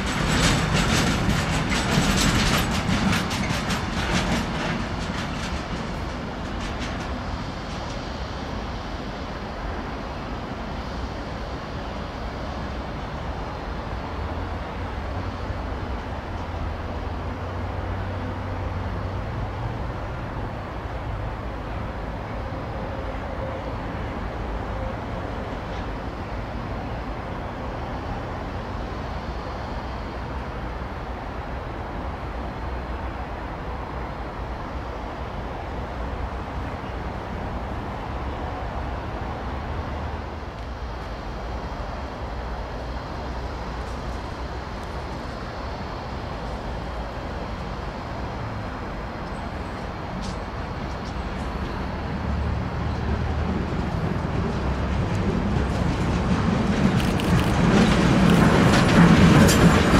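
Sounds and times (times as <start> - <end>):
approaching freight train: 0.0 - 59.9
distant traffic-like rumble: 0.0 - 59.9.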